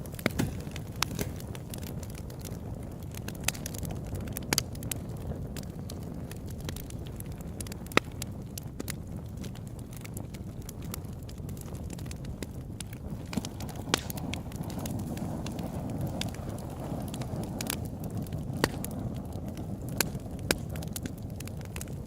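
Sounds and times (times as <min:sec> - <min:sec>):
campfire flames rushing: 0:00.0 - 0:22.0
fire crackling and popping: 0:00.0 - 0:22.0.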